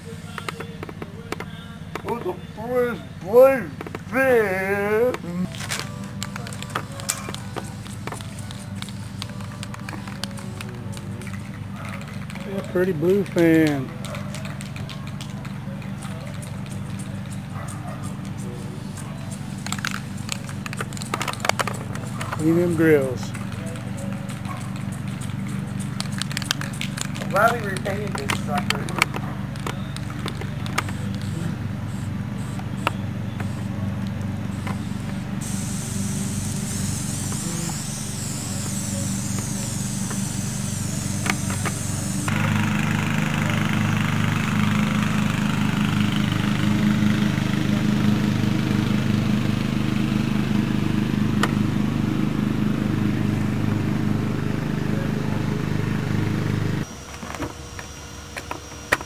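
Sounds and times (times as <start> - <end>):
motor droning: 4.7 - 59.0.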